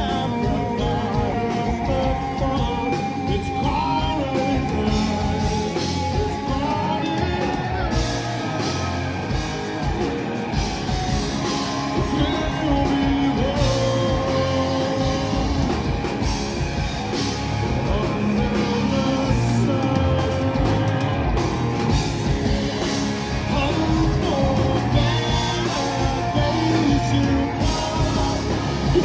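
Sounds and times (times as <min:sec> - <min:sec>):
man singing lead vocal: 0:00.0 - 0:08.9, 0:11.6 - 0:16.0, 0:17.6 - 0:29.0
bass guitar: 0:00.0 - 0:29.0
drum kit: 0:00.0 - 0:29.0
electric guitars: 0:00.0 - 0:29.0.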